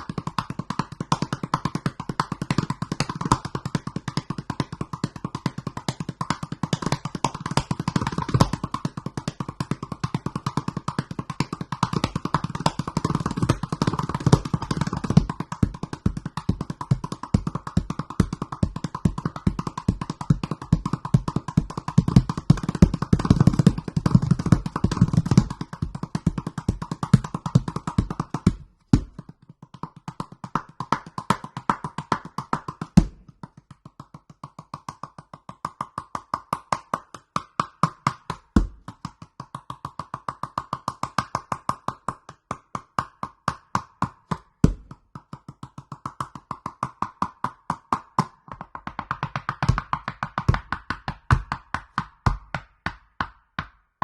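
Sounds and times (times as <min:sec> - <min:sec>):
gourd drum played by hand: 0:00.0 - 0:33.4, 0:37.3 - 0:41.8, 0:42.7 - 0:53.7.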